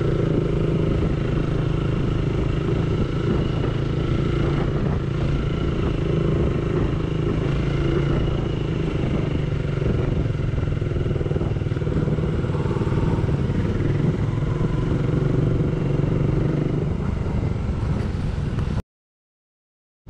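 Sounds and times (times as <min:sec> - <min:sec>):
motorcycle engine cruising: 0:00.0 - 0:18.8
road rumble: 0:00.0 - 0:18.8
wind on microphone: 0:00.0 - 0:18.8.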